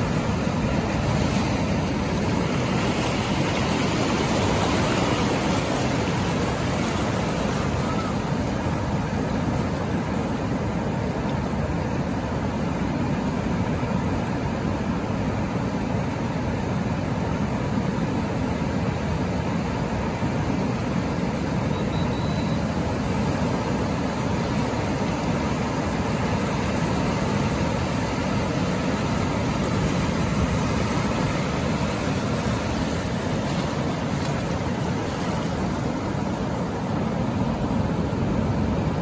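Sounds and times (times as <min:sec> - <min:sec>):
waves breaking on rocky shore: 0:00.0 - 0:39.0.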